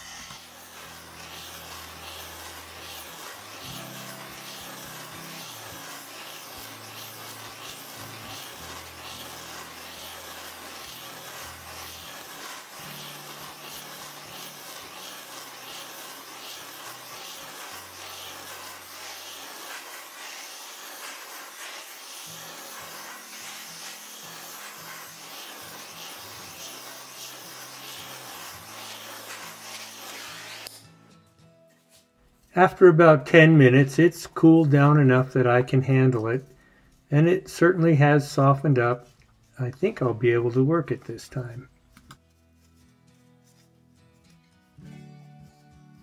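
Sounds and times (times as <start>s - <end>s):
welding torch flame hissing: 0.0s - 31.0s, 32.5s - 43.7s.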